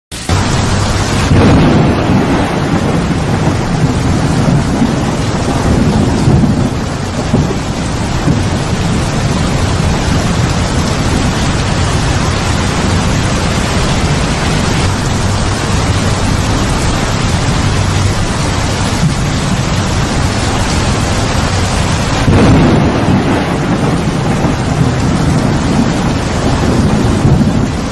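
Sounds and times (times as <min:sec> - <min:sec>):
heavy rain pouring: 0:00.1 - 0:27.9
thunder rumbling: 0:00.2 - 0:27.9.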